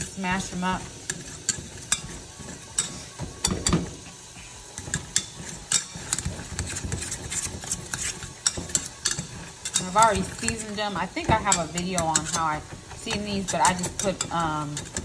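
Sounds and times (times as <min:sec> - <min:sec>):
potato masher mashing beans: 0:00.0 - 0:15.0
metal masher knocking against pan: 0:00.5 - 0:04.0, 0:04.8 - 0:15.0.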